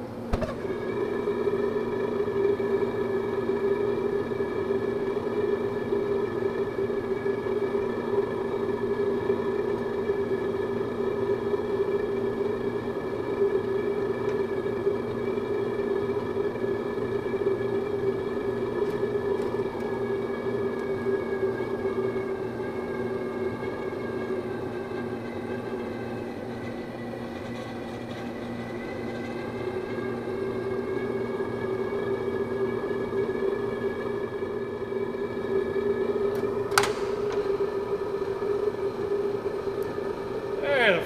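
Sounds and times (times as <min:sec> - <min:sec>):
steady droning hum: 0:00.0 - 0:41.0.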